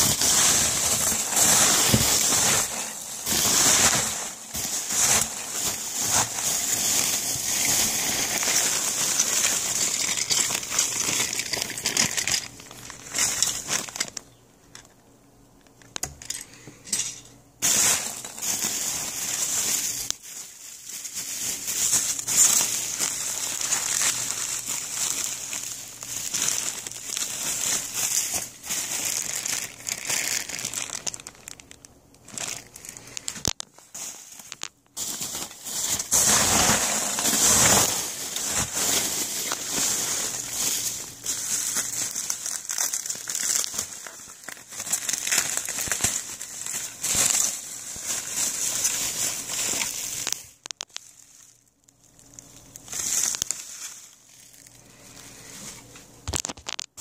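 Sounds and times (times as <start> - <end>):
packing peanuts rustling: 0.0 - 14.9, 17.6 - 57.0.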